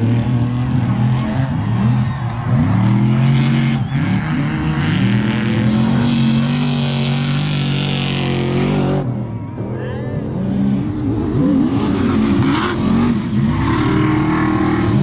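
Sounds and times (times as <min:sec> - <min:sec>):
racing engines running hard: 0:00.0 - 0:15.0.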